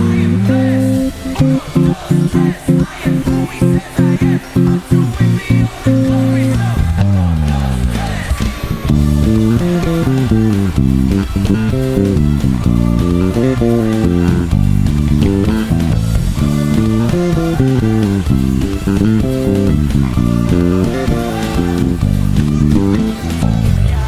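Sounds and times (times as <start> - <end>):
electric bass guitar playing: 0.0 - 24.0.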